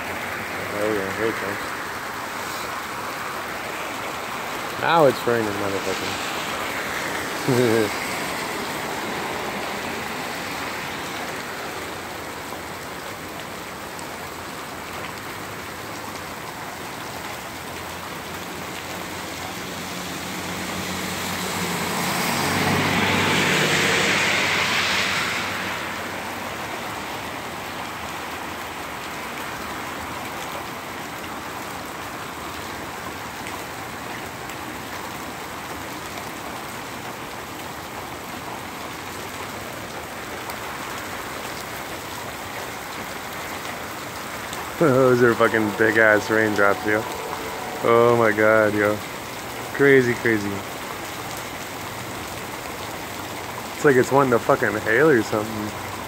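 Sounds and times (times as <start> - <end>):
car driving past on wet road: 0.0 - 16.3, 17.6 - 56.0
steady rain falling: 0.0 - 56.0.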